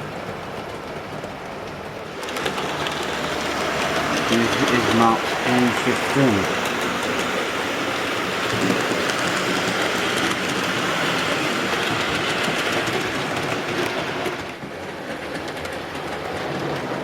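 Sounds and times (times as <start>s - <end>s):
model train wheels rumbling: 0.0s - 17.0s
rapid clicking over rail joints: 0.2s - 17.0s.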